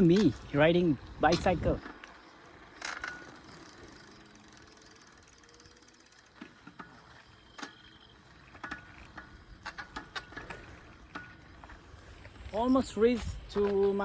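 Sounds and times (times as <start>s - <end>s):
bicycle freewheel ticking: 0.0s - 13.2s
bike clicking and rattling: 0.0s - 14.0s.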